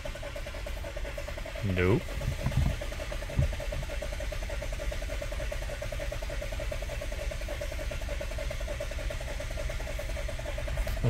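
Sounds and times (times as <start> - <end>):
engine cranking without starting: 0.0 - 11.0.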